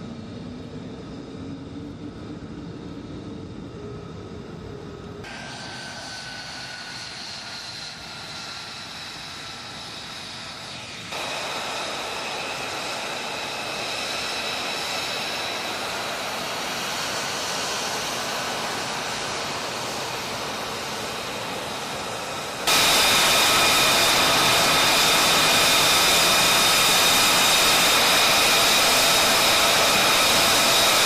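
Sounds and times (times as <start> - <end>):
jet engine rush with turbine whine: 0.0 - 31.0.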